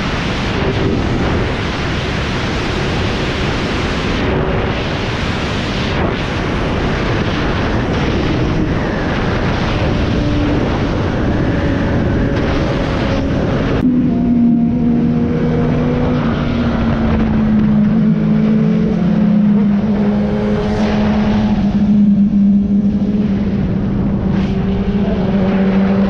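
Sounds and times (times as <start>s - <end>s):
faint motorcycle engine drone: 0.0s - 26.0s
wind rushing over microphone: 0.0s - 26.0s.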